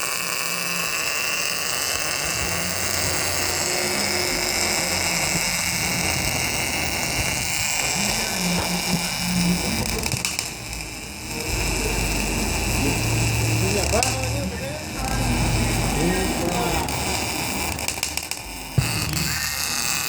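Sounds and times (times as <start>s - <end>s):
steady machinery noise: 0.0s - 20.0s.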